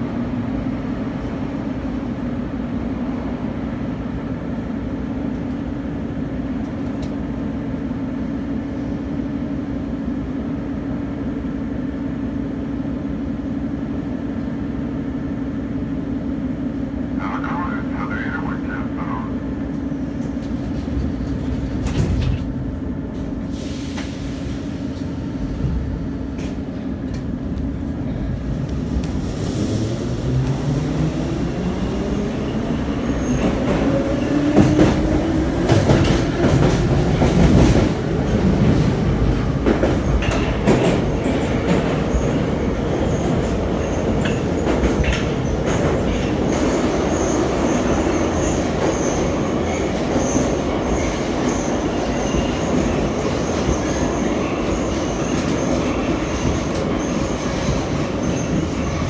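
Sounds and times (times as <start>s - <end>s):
metro train hum: 0.0s - 59.0s.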